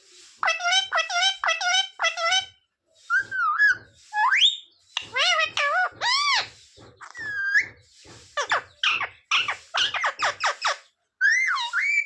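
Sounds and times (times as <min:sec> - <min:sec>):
parrot calling: 0:00.4 - 0:07.6, 0:08.4 - 0:12.0.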